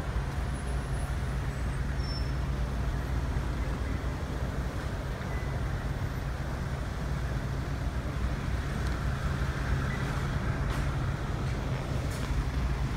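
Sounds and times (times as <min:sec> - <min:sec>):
traffic engines rumbling: 0:00.0 - 0:12.9.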